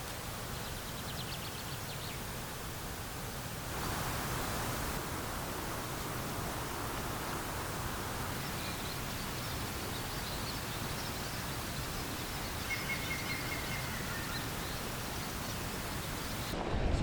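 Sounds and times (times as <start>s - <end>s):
river water rushing: 0.0s - 16.6s
small birds chirping: 0.0s - 16.6s.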